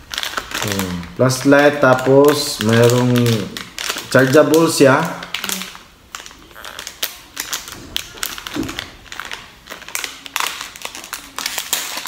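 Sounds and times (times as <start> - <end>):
plastic packaging clicks and taps: 1.8 - 12.0.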